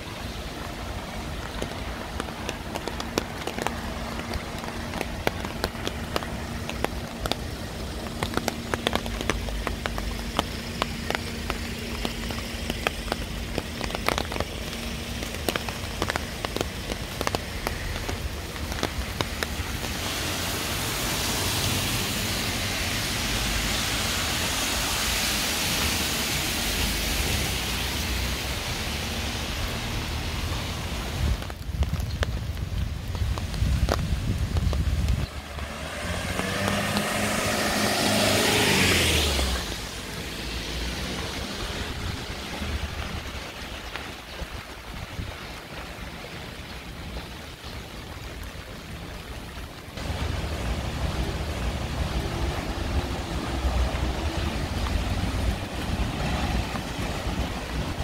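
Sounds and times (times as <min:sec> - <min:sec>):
heavy rain hissing: 0:00.0 - 0:58.0
raindrop impacts: 0:00.0 - 0:58.0.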